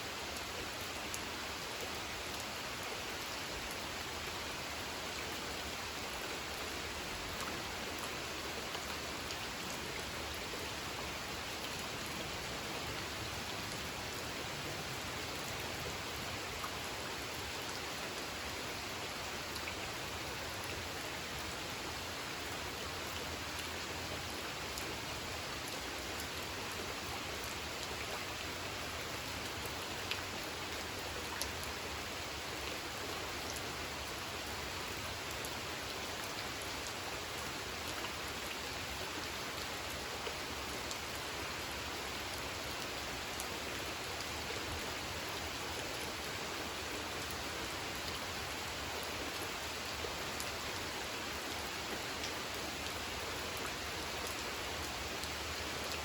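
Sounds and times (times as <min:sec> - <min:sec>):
rain falling on a pond: 0:00.0 - 0:56.0.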